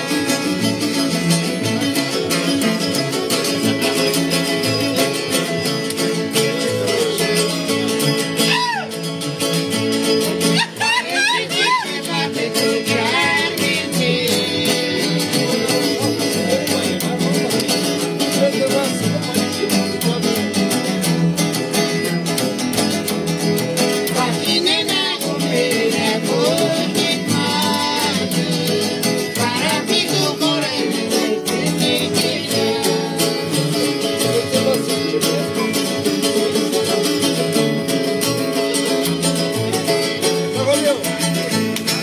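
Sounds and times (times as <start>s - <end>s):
acoustic guitars strumming: 0.0s - 42.0s
plucked upright bass: 0.0s - 42.0s.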